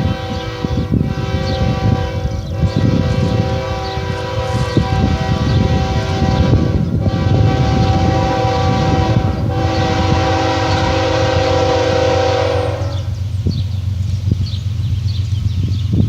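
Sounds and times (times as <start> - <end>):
locomotive air horn: 0.0 - 13.2
low train rumble: 0.0 - 16.0.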